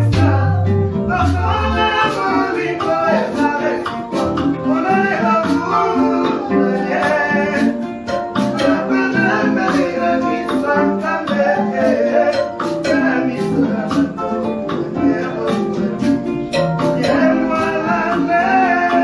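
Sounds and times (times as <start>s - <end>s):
guitars and keyboard playing: 0.0s - 19.0s
steady percussion beat: 0.0s - 19.0s
voices singing together: 0.0s - 19.0s.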